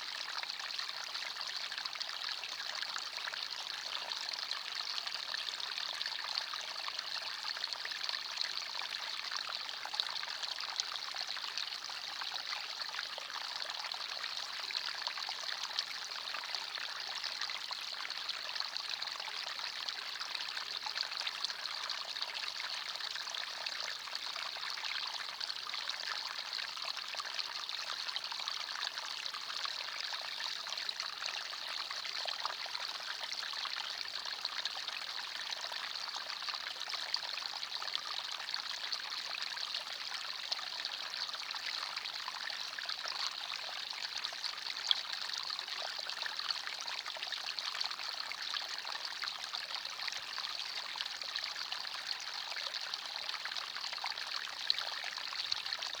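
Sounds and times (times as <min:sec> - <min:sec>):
stream water trickling over stones: 0:00.3 - 0:56.0.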